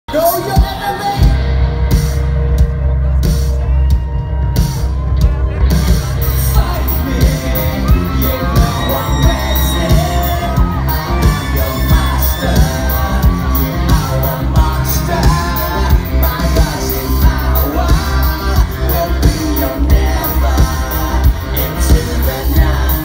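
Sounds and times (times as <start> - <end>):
rock band playing live: 0.1 - 23.0.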